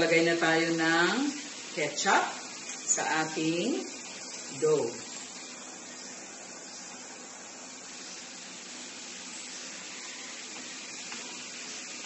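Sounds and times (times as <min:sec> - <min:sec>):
room background hiss: 0:00.0 - 0:12.0.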